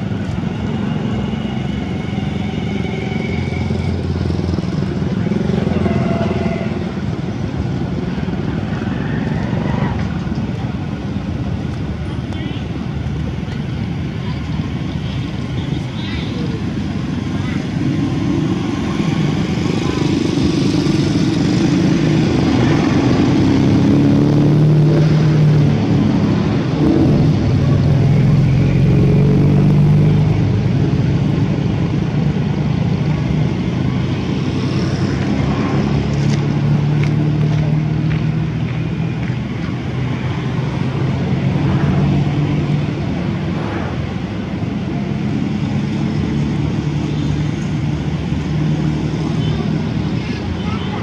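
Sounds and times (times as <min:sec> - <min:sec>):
vehicle engines humming: 0:00.0 - 0:51.0.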